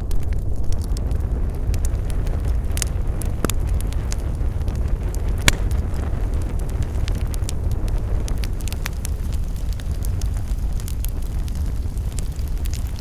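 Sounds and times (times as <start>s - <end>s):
low rumble of flames: 0.0s - 13.0s
wood crackling and popping: 0.0s - 13.0s.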